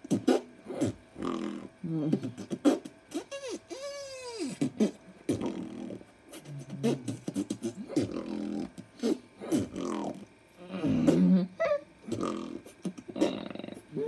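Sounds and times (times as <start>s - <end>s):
beatboxing mouth noises: 0.0s - 14.0s.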